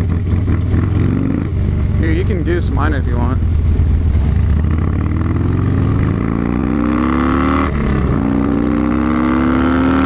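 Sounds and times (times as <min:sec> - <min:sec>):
motorcycle accelerating hard: 0:00.0 - 0:02.2, 0:03.4 - 0:10.0.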